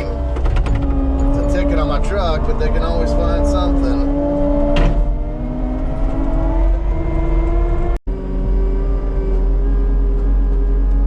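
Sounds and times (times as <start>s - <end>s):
heavy diesel engine under load: 0.0s - 11.0s.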